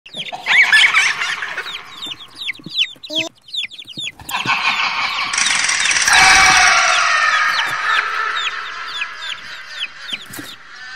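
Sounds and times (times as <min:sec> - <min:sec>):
chicks peeping: 0:00.1 - 0:10.9
hen clucking: 0:00.1 - 0:10.9.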